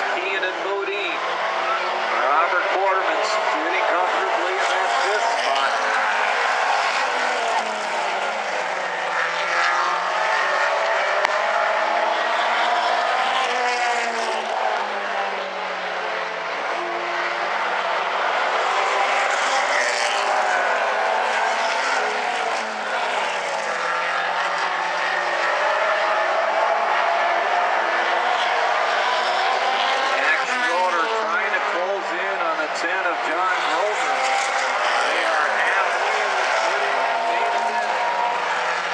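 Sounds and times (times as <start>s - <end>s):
race car engines passing: 0.0s - 38.9s.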